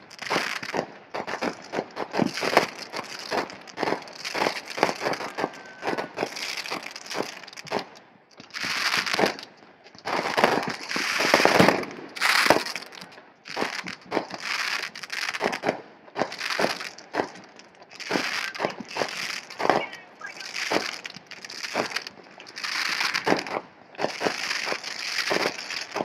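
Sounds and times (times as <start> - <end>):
fireworks hissing crackle: 0.0 - 26.0
fireworks popping and cracking: 0.0 - 26.0.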